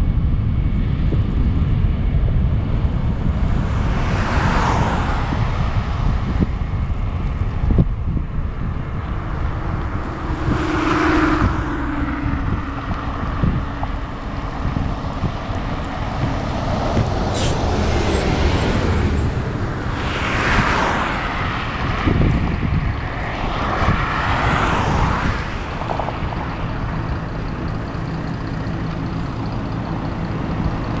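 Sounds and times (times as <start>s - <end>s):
steady low rumble: 0.0s - 31.0s
cars driving past: 1.1s - 31.0s.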